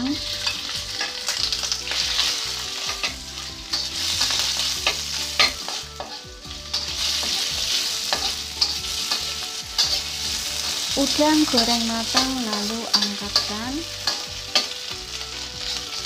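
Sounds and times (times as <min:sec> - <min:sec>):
shrimp sizzling in hot oil: 0:00.0 - 0:16.0
spatula scraping a wok: 0:00.0 - 0:16.0.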